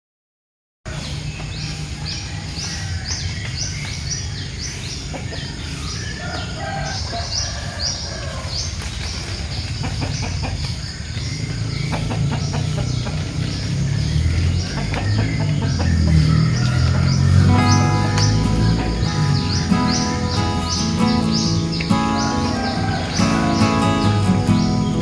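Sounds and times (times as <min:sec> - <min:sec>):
chickens: 0:00.9 - 0:25.0
small birds chirping: 0:00.9 - 0:25.0.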